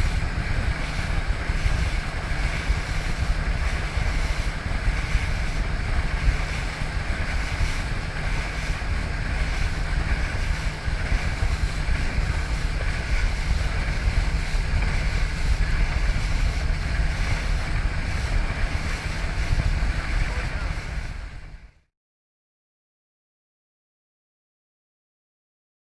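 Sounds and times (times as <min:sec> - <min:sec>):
low rumble: 0:00.0 - 0:21.8
rushing wind and water: 0:00.0 - 0:21.8
wind buffeting microphone: 0:00.0 - 0:21.8.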